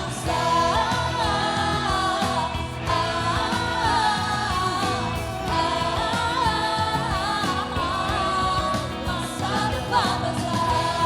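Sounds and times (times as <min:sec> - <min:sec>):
backing band playing: 0:00.0 - 0:11.0
person singing pop song: 0:00.0 - 0:11.0.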